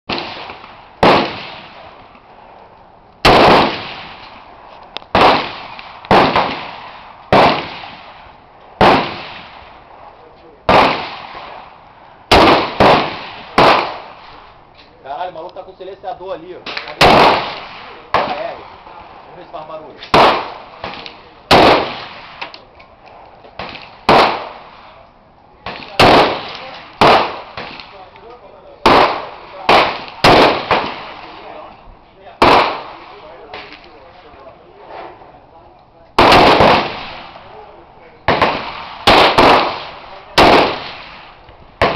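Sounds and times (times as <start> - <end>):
rifle single shots with echo: 0.1 - 14.6, 16.6 - 25.0, 25.6 - 35.2, 36.2 - 41.9.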